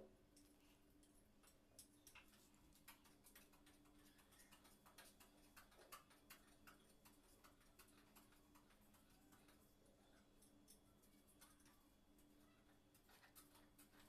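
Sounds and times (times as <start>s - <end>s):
faint irregular clicks: 0.3s - 14.0s.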